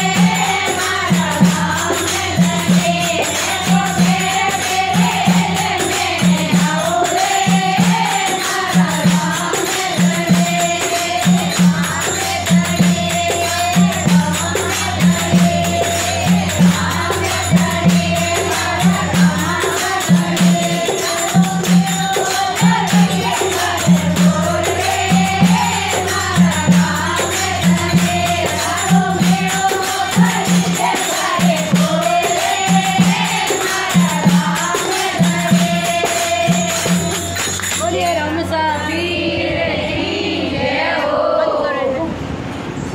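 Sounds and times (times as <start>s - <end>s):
hand drum beating: 0.0s - 38.2s
hand cymbals jingling: 0.0s - 39.0s
women singing in unison: 0.0s - 42.2s.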